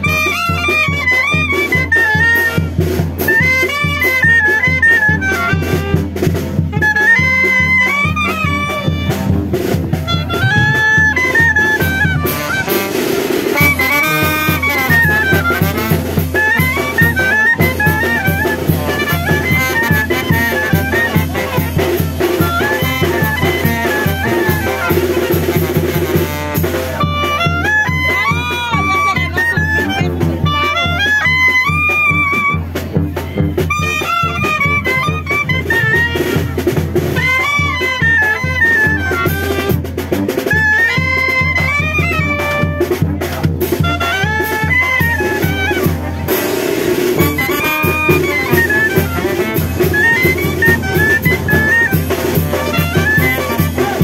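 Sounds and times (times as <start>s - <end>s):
brass band music: 0.0s - 54.0s.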